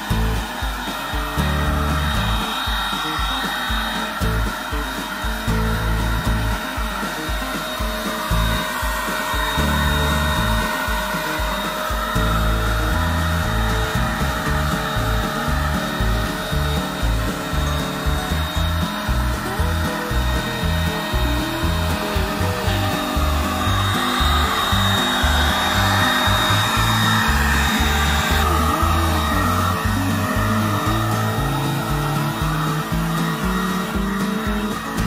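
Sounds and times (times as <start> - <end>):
airy spray hiss: 0.0 - 35.0
music with bass beat: 0.0 - 35.0
paint spray gun whining: 0.0 - 35.0.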